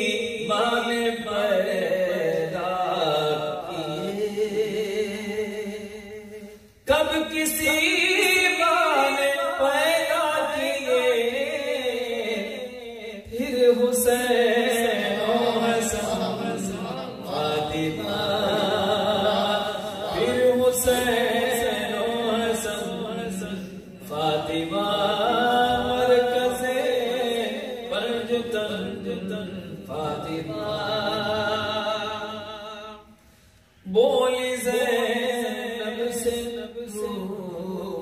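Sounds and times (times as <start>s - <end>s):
man chanting devotional poem: 0.0s - 33.2s, 33.8s - 38.0s.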